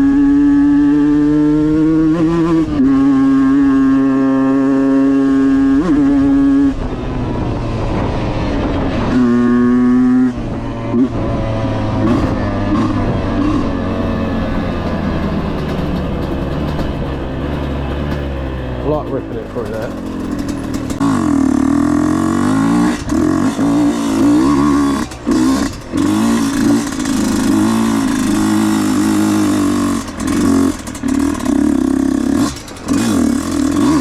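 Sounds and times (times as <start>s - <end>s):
dirt bike engine revving: 0.0s - 34.0s
wind: 0.0s - 34.0s
ground noise: 6.7s - 34.0s.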